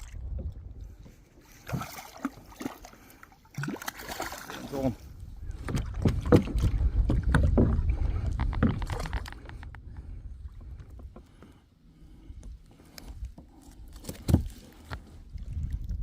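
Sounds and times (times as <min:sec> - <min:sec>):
low water rumble: 0:00.0 - 0:16.0.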